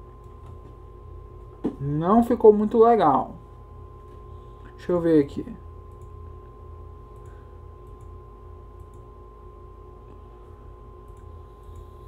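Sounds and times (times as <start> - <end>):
electrical hum with whine: 0.0 - 12.0.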